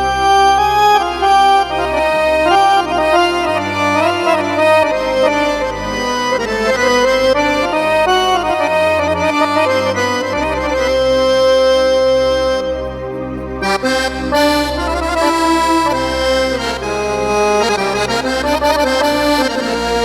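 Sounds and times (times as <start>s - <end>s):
held bass notes: 0.0s - 20.0s
keyboard accordion melody: 0.0s - 20.0s.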